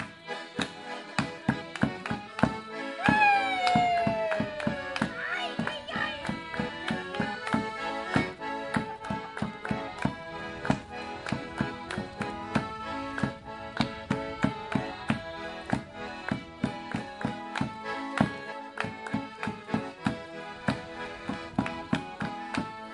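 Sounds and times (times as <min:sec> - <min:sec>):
accordion playing a dance tune: 0:00.0 - 0:22.9
sharp steady beat: 0:00.0 - 0:22.9.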